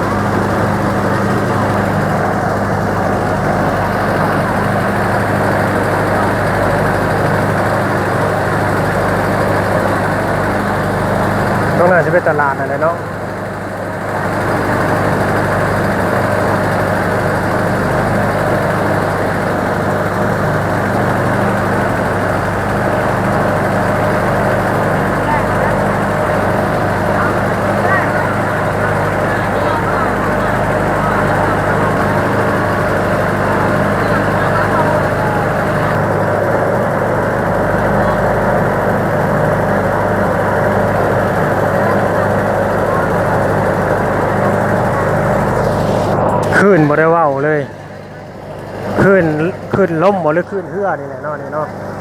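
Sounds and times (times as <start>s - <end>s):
ferry engine running: 0.0s - 52.0s.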